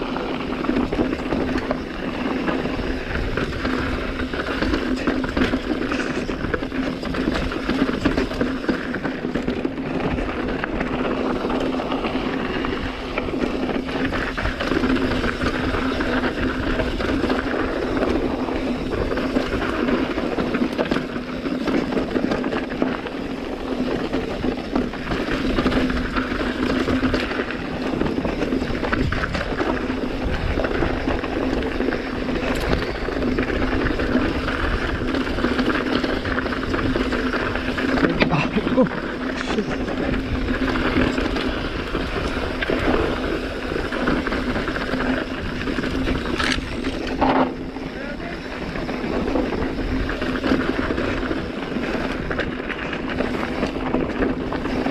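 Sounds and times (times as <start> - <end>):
bike rattling: 0.0 - 54.9
tyres crunching on gravel: 0.0 - 54.9.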